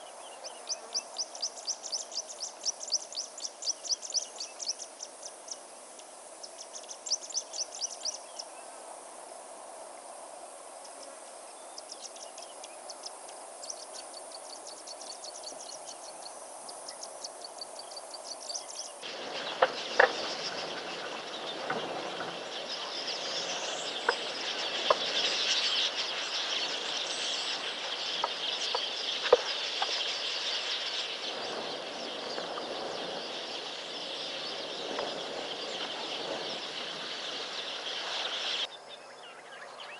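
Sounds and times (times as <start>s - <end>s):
birds chirping: 0.0s - 5.7s, 6.4s - 8.6s, 10.9s - 39.9s
insects: 0.0s - 39.9s.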